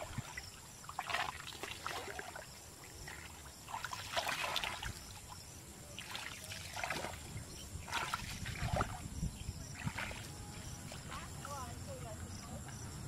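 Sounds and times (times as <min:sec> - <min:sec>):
feet sloshing through water: 0:00.0 - 0:13.0.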